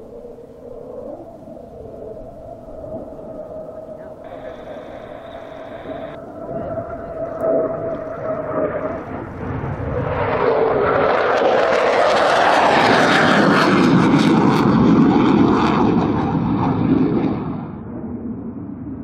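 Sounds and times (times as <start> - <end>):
fighter jet engines roaring: 0.0 - 19.0.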